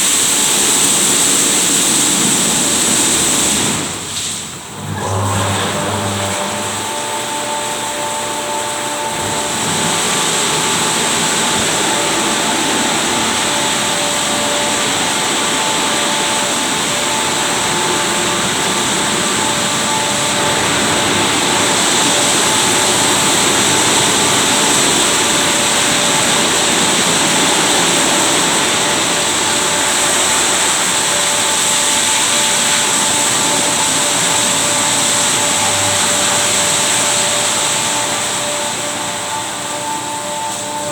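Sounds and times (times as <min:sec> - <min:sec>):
car wash rushing hiss: 0:00.0 - 0:40.9
faint motor whine: 0:00.0 - 0:40.9.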